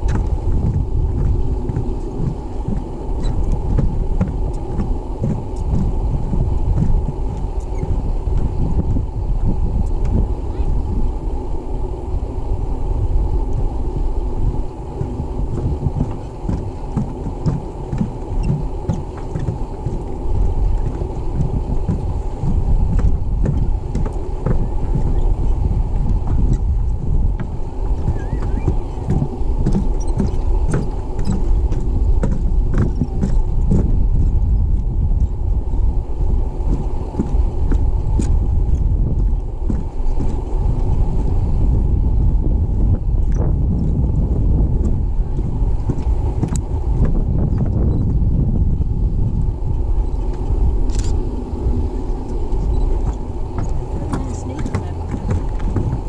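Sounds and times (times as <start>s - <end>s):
footsteps on wooden boardwalk: 0.0s - 11.2s, 13.4s - 56.0s
wind buffeting microphone: 0.0s - 56.0s.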